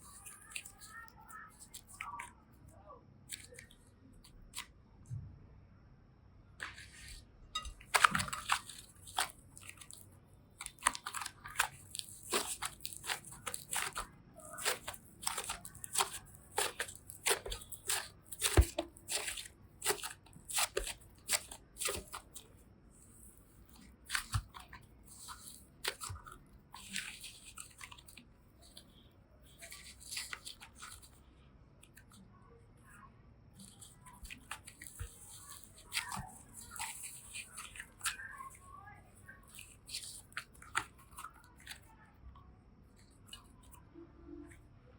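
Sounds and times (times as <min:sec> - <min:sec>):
clay and slime squeezed by hand: 0:00.0 - 0:04.8, 0:06.6 - 0:31.2, 0:33.5 - 0:44.7.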